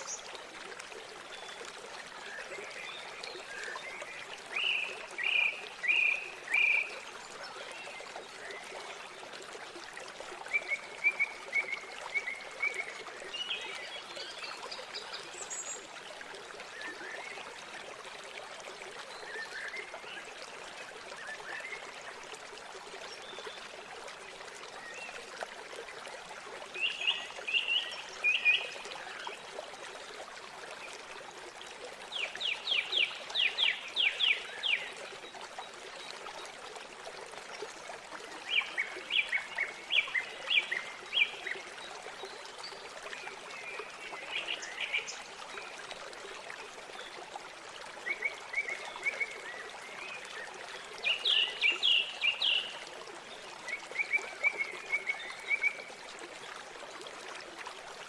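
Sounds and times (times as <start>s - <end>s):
river water trickling: 0.0s - 58.0s.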